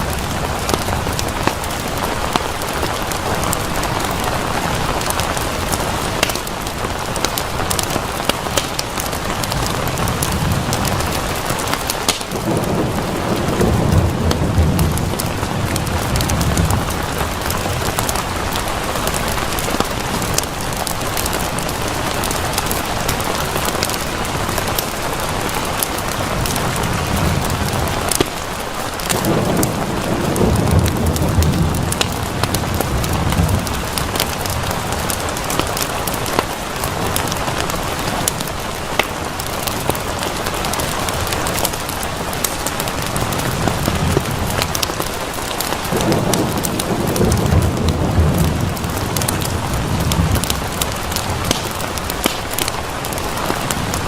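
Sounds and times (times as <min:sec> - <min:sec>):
rolling thunder: 0:00.0 - 0:37.8, 0:40.6 - 0:54.0
steady rain: 0:00.0 - 0:54.0.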